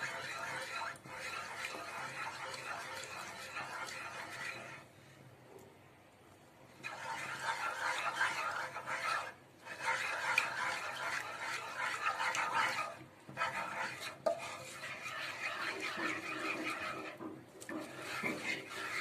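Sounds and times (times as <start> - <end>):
wooden spoon stirring in a pan: 0.0 - 5.2, 6.7 - 19.0.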